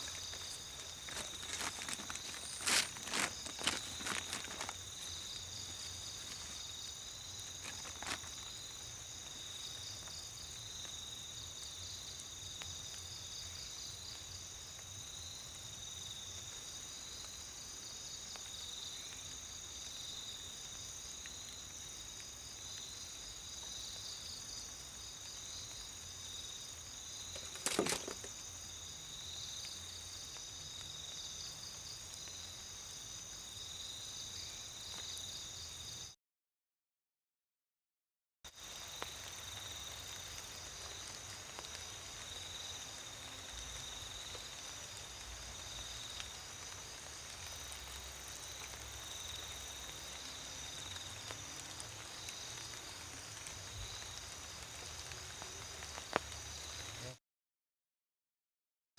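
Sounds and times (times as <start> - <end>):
insect chorus trilling: 0.0 - 36.1, 38.6 - 57.2.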